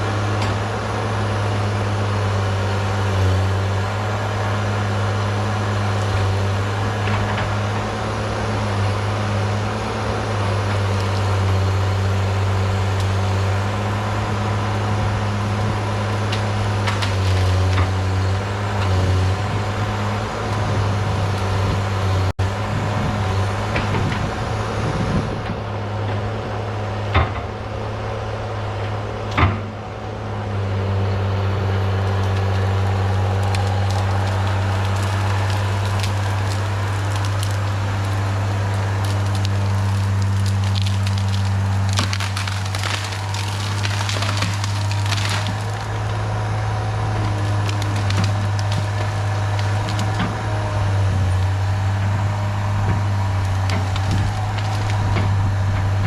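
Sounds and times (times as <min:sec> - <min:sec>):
diesel engine running: 0:00.0 - 0:56.0
wood cracking and splintering: 0:00.1 - 0:26.3, 0:31.7 - 0:56.0.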